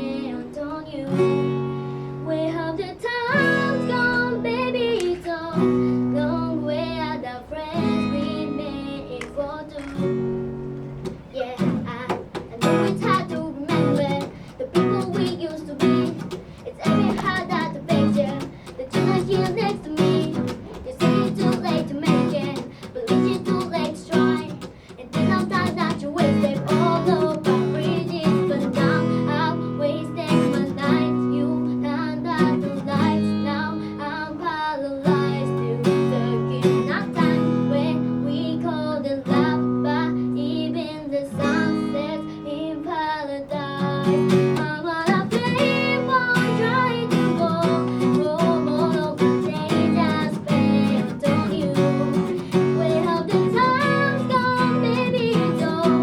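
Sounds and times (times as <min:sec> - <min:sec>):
person singing: 0:00.0 - 0:01.6, 0:02.2 - 0:10.2, 0:11.0 - 0:56.0
acoustic guitar strumming: 0:00.0 - 0:56.0.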